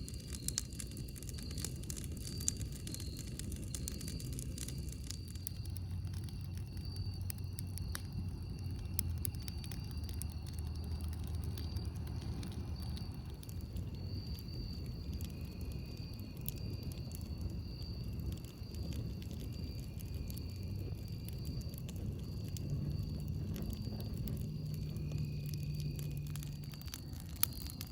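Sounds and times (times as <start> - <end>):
low steady rumble: 0.0 - 27.9
wood crackling and popping: 0.0 - 27.9.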